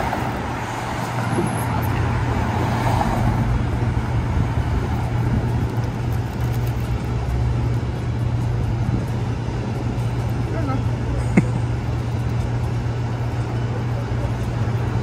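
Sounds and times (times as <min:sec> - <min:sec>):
road noise hiss: 0:00.0 - 0:15.0
vehicle engine humming: 0:00.0 - 0:15.0.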